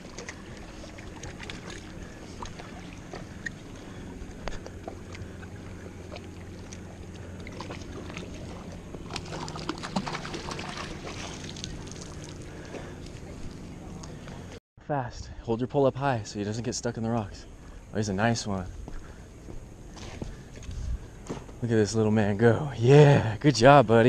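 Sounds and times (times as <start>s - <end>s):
motorboat engine droning: 0.0s - 14.6s, 16.3s - 24.0s.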